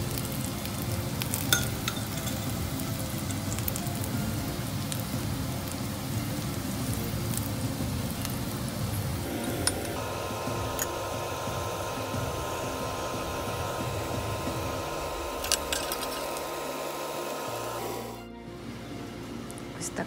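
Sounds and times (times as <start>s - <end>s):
potato pancake sizzling in pan: 0.0s - 18.2s.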